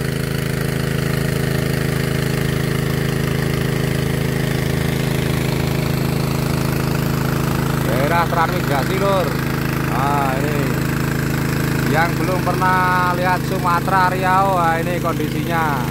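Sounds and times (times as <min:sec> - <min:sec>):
water pump engine running: 0:00.0 - 0:15.9.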